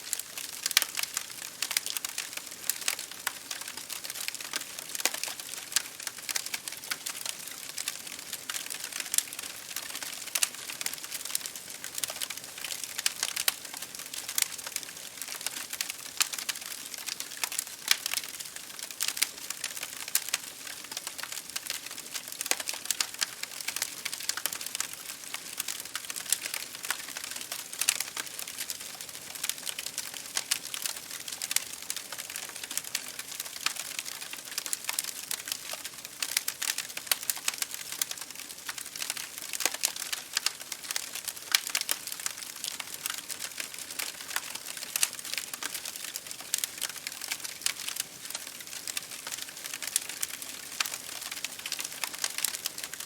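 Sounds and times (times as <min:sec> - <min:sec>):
rain against a window: 0:00.0 - 0:53.0
wood fire crackling: 0:00.0 - 0:53.0.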